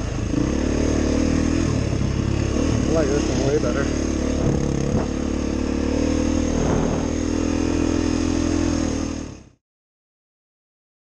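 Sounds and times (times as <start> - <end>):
dirt bike engine running: 0.0 - 9.5.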